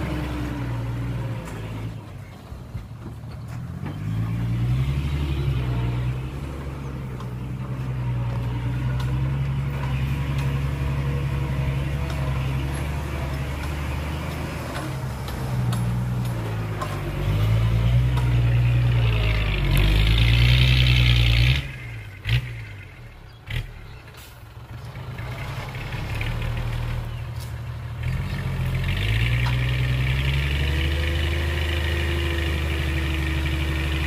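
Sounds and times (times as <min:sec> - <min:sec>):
truck diesel engine under load: 0:00.0 - 0:34.0.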